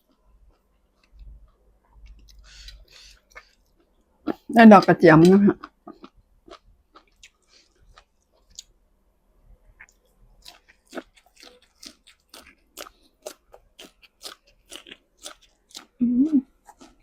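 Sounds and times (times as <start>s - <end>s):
person chewing crisp food: 0.0s - 4.5s, 5.6s - 8.8s, 9.6s - 17.0s.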